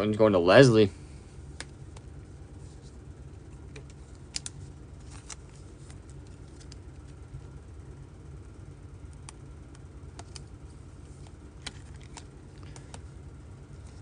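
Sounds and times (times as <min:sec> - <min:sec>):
faint low room hum: 0:00.0 - 0:14.0.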